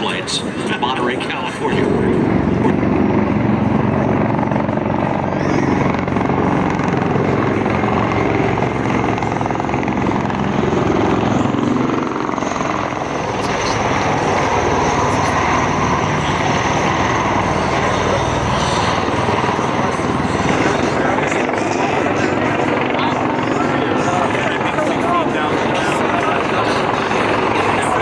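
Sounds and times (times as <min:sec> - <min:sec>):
biplane engine droning: 0:00.0 - 0:28.0
broad rushing noise: 0:00.0 - 0:28.0.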